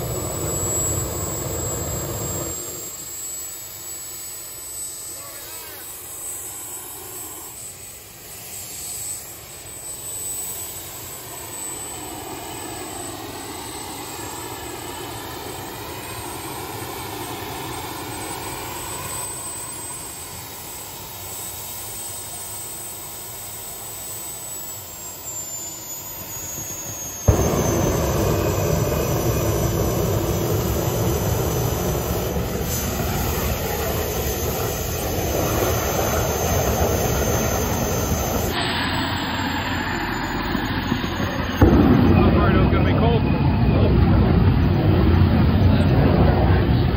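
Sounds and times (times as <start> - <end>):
small jet engine whining: 0.0 - 46.9.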